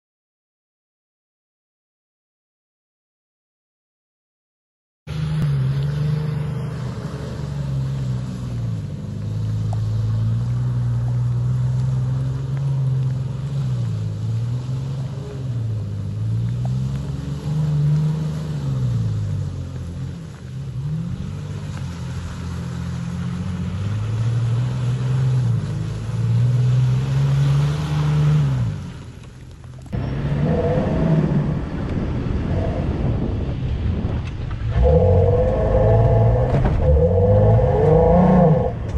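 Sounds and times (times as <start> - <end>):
car engine revving under load: 5.1 - 38.9
rough noisy engine: 5.1 - 38.9.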